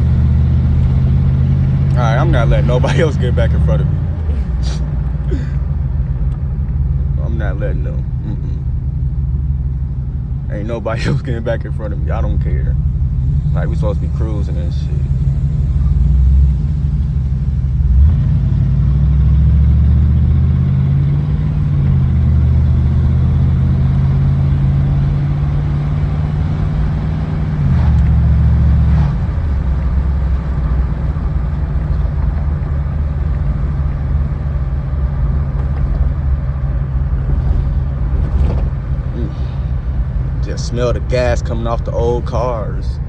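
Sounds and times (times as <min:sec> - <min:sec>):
car engine cruising: 0:00.0 - 0:43.0
road noise: 0:00.0 - 0:43.0.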